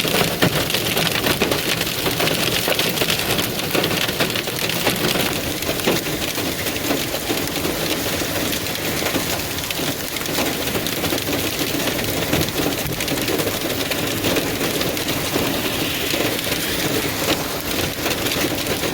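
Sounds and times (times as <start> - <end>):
hail and heavy rain pelting: 0.0 - 18.9.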